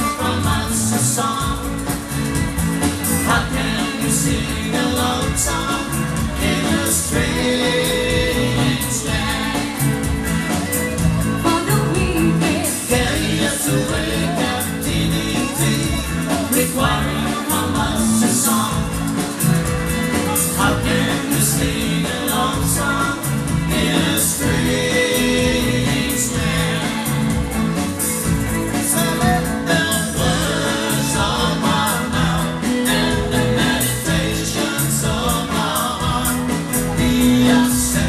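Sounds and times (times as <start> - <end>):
electric guitar: 0.0 - 38.0
live band playing: 0.0 - 38.0
steady drum beat: 0.0 - 38.0.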